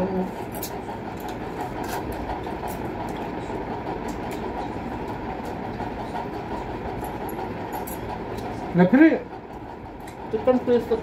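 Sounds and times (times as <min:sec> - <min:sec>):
electric fan running: 0:00.0 - 0:11.0.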